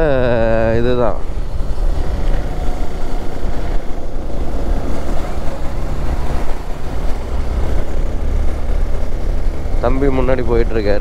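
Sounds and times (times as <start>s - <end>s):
motorcycle engine climbing: 0.0s - 11.0s.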